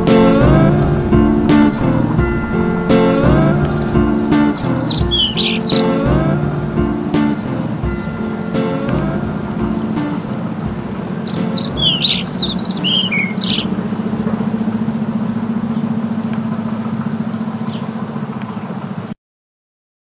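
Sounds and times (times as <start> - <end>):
birds chirping: 0.0 - 19.1
low pulsing hum: 0.0 - 19.1.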